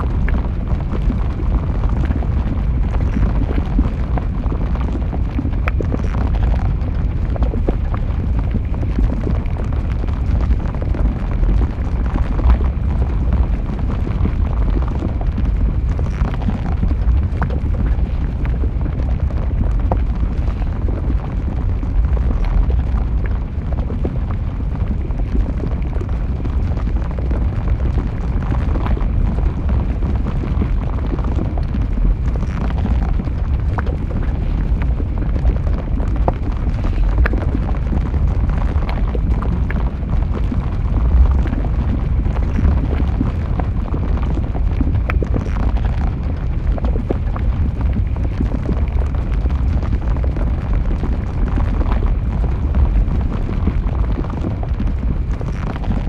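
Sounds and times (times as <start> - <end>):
lava crackles and pops: 0.0 - 56.0
lava deep rumble: 0.0 - 56.0.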